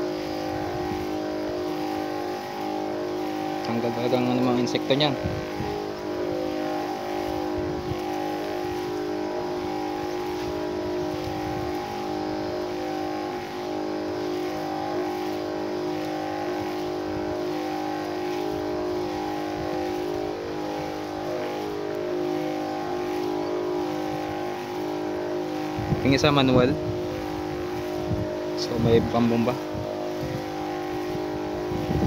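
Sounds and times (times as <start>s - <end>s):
sprayer pump motor humming: 0.0s - 32.0s.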